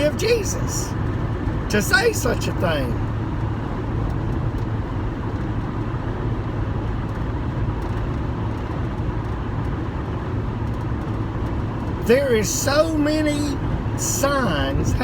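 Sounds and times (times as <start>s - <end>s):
vehicle rumble and hum: 0.0s - 15.0s.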